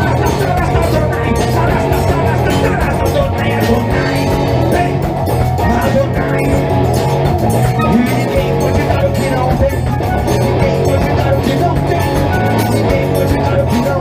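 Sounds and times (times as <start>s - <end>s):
bass: 0.0s - 14.0s
drums: 0.0s - 14.0s
electric guitar: 0.0s - 14.0s
keyboard: 0.0s - 14.0s.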